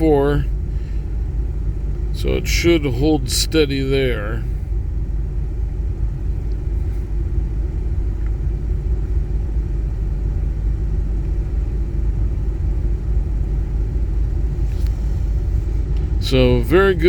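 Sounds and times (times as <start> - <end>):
engine idling with low rumble: 0.0 - 17.0.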